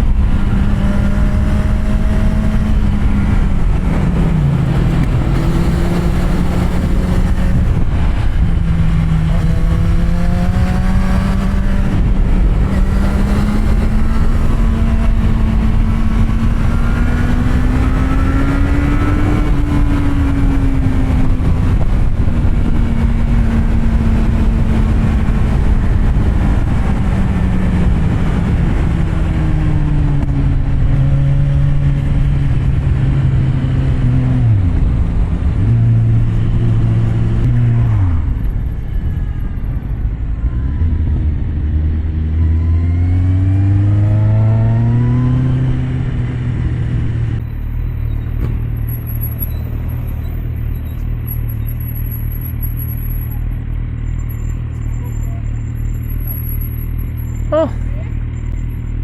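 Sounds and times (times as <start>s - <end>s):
motorcycle engine under way: 0.0s - 39.5s, 40.7s - 59.0s
wind rush: 0.0s - 47.4s.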